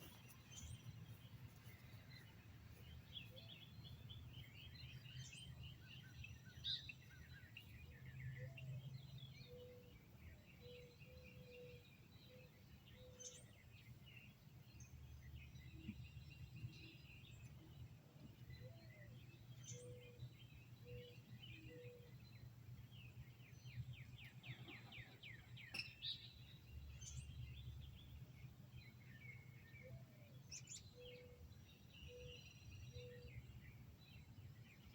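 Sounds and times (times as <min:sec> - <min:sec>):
birds singing and chirping: 0:00.0 - 0:34.9.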